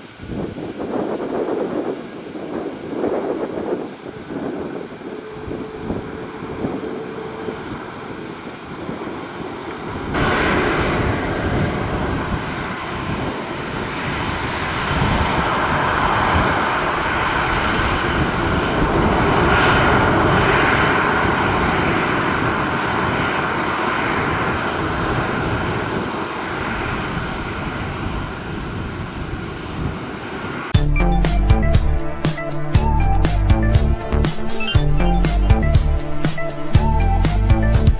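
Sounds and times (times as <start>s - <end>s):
jet engines rushing: 0.0s - 37.9s.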